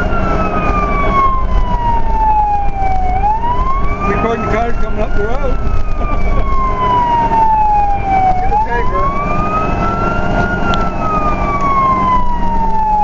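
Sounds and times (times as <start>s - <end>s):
fire engine siren wailing: 0.0s - 13.0s
road noise: 0.0s - 13.0s
truck engine: 0.0s - 13.0s.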